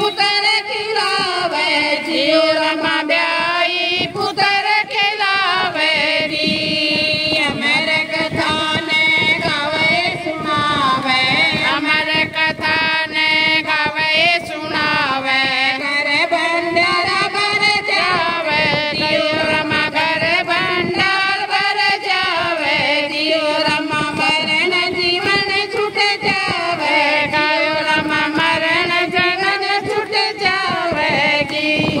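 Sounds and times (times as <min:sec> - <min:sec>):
women singing devotional song: 0:00.0 - 0:32.0
hand claps: 0:05.6 - 0:32.0.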